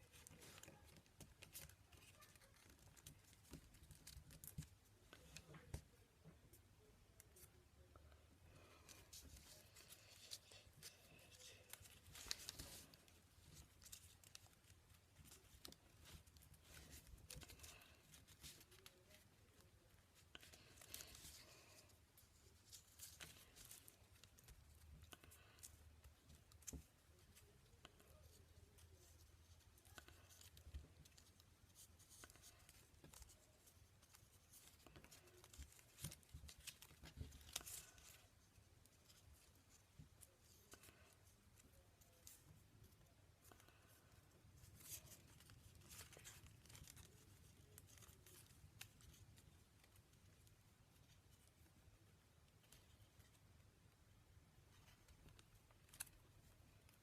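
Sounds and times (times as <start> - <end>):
paper rustling and creasing: 0.0 - 6.4, 8.5 - 57.0.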